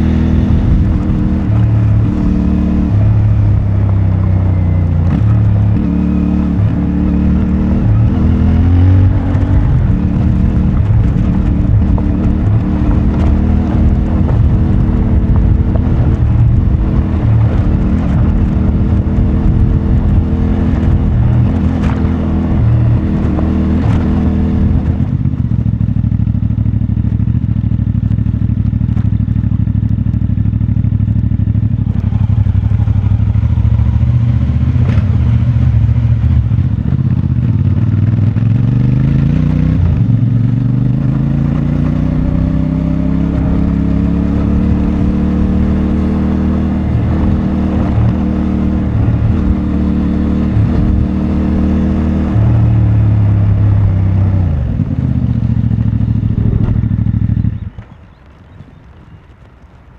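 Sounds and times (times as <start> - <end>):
motorcycle engine revving: 0.0 - 59.4.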